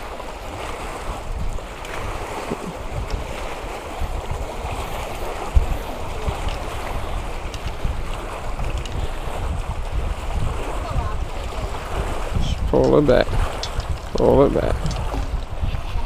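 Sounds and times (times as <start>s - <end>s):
water lapping and splashing: 0.0s - 16.0s
wind buffeting microphone: 0.0s - 16.0s.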